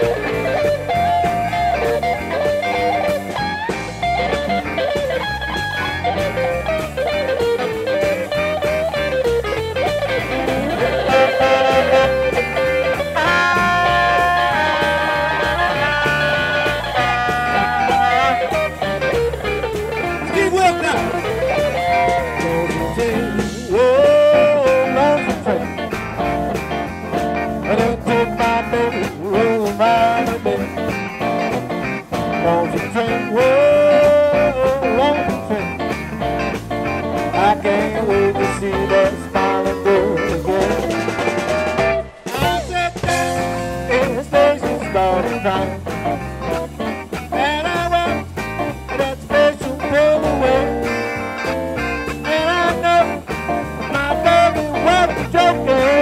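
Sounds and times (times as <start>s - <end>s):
drums: 0.0s - 56.0s
electric bass: 0.0s - 56.0s
electric guitar lead: 0.0s - 56.0s.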